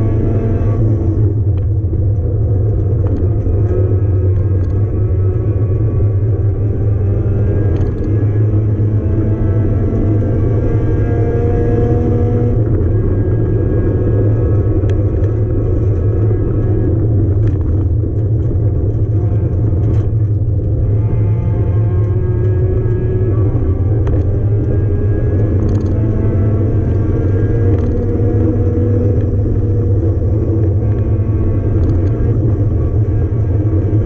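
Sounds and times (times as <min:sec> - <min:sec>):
car engine running hard from cabin: 0:00.0 - 0:34.0.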